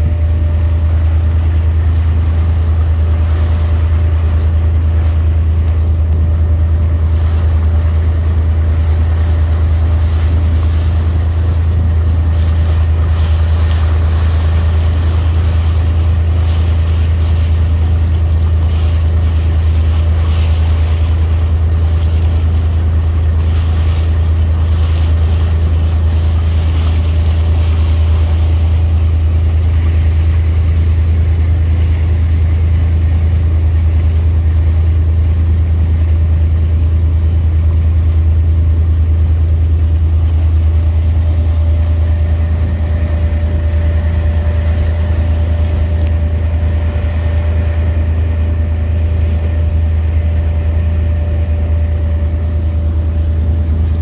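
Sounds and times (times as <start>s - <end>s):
boat engine droning: 0.0s - 54.0s
faint steady whine: 0.0s - 54.0s
wind and water hiss: 0.0s - 54.0s.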